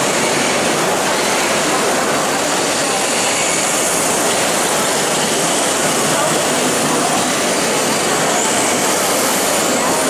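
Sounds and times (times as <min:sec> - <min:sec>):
busy exhibition hall din: 0:00.0 - 0:10.0.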